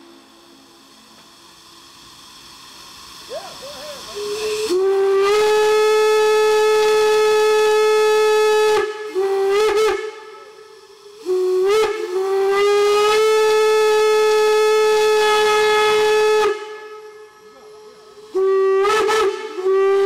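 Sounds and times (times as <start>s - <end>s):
steam whistle blowing: 3.3s - 20.0s.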